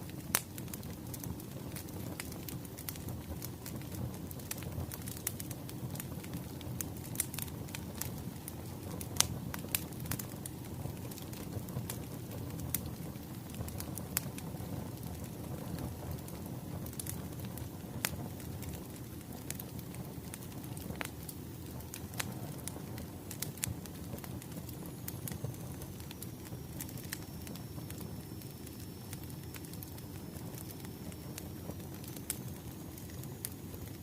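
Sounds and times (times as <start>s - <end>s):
wood fire crackling: 0.0s - 34.0s
burning logs popping and snapping: 0.1s - 34.0s.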